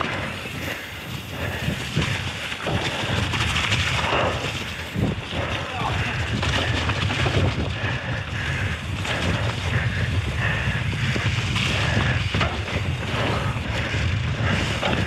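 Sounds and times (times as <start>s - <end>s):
bike rattling over bumps: 0.0s - 15.0s
tyres rolling over rough trail: 0.0s - 15.0s
wind buffeting microphone: 0.0s - 15.0s.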